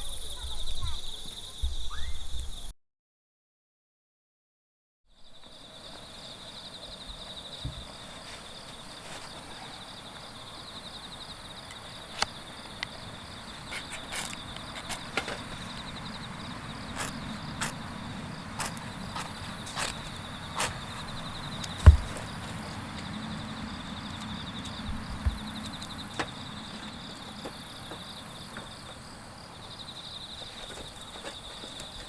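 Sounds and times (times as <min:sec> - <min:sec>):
crickets chirring: 0:00.0 - 0:02.7, 0:05.1 - 0:32.0.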